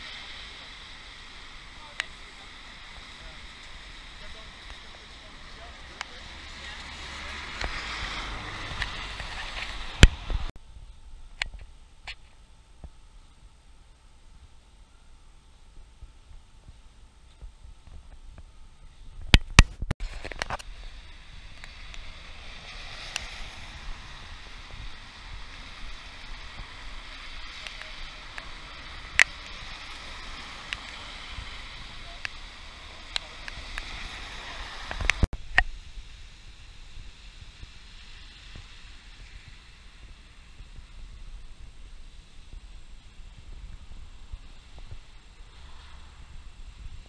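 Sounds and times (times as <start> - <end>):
light rain on pavement: 0.0 - 18.5, 19.9 - 47.0
steady outdoor hiss: 0.0 - 47.0.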